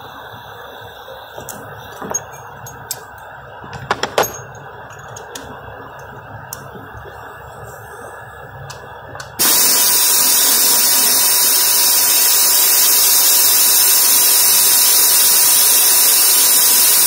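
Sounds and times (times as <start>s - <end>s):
workshop background noise: 0.0s - 17.0s.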